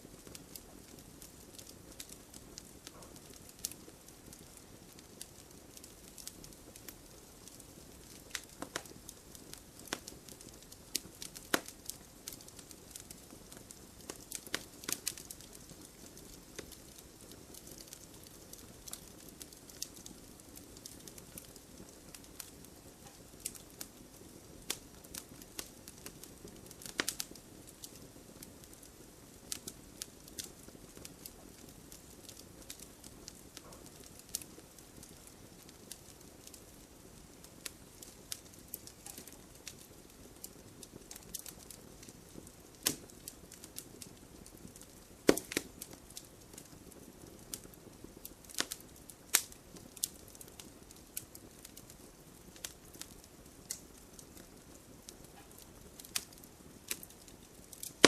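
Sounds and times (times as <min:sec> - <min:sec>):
low rumble of flames: 0:00.0 - 0:58.0
wood crackling and popping: 0:00.0 - 0:58.0.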